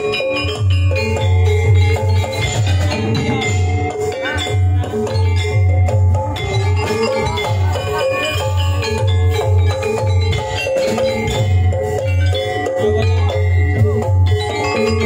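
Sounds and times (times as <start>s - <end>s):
metallophones ringing melody: 0.0s - 15.0s.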